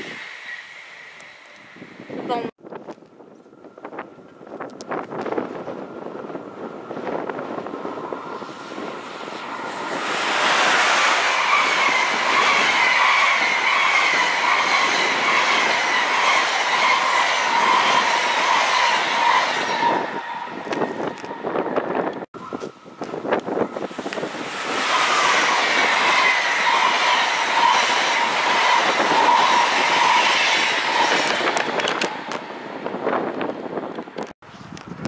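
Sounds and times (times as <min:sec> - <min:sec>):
train passing at speed: 0:00.0 - 0:02.6, 0:03.5 - 0:34.2.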